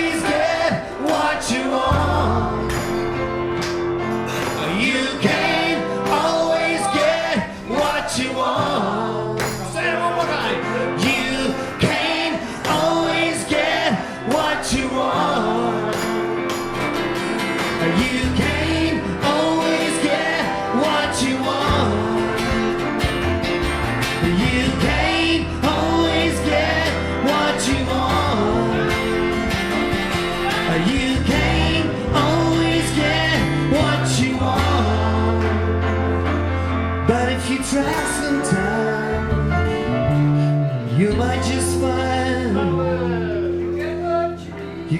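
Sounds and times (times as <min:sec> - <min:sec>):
bass notes: 0:00.0 - 0:44.9
guitar: 0:00.0 - 0:44.9.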